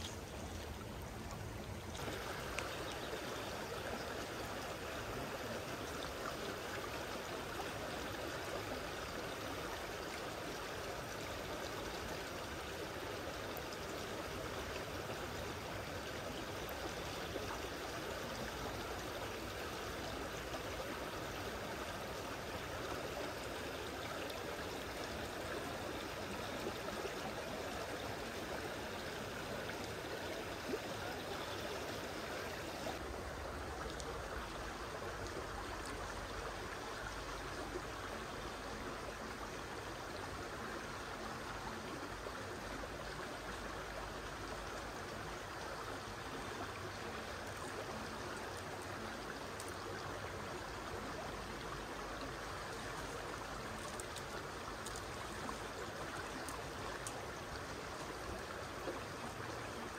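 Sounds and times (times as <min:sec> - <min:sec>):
stream flowing over pebbles: 0:00.0 - 0:59.9.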